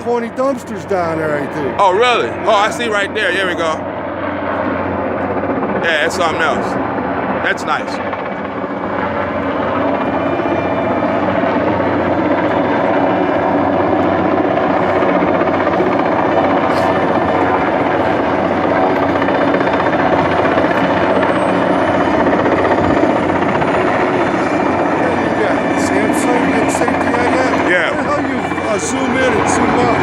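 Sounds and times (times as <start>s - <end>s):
helicopter hovering: 0.0s - 30.0s.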